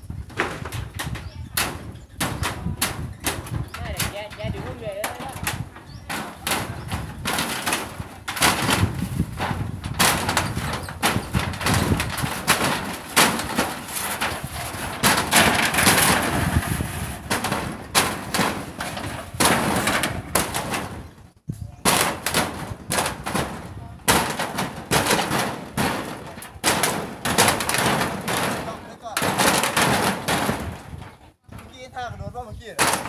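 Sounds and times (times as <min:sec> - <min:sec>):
hammering nails: 0:00.3 - 0:21.2, 0:21.8 - 0:31.2, 0:32.8 - 0:33.0.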